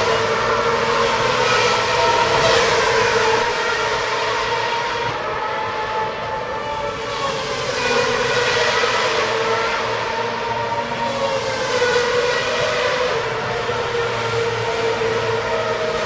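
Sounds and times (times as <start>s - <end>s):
racing car engines at high revs: 0.0s - 16.0s.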